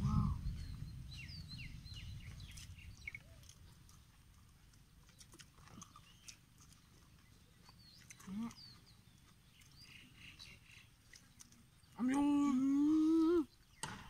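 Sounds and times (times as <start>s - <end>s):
small birds chirping: 0.3s - 14.0s.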